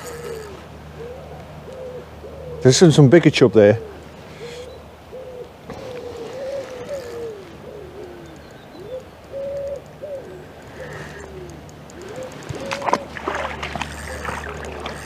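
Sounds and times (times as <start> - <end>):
pigeon cooing: 0.0 - 3.0, 3.6 - 15.0
river water rumbling: 0.0 - 15.0.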